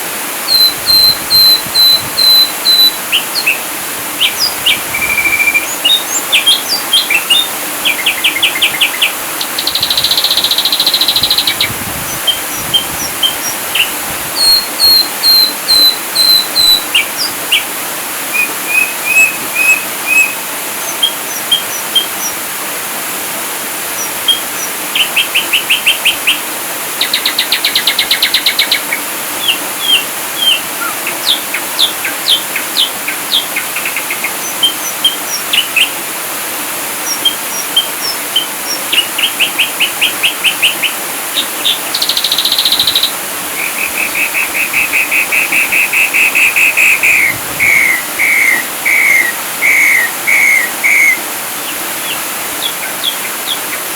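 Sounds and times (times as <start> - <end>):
steady hiss: 0.0 - 53.9
bird whistled chirps and trills: 0.5 - 3.6, 4.2 - 17.7, 18.3 - 22.4, 24.0 - 26.4, 27.0 - 36.0, 37.1 - 53.9.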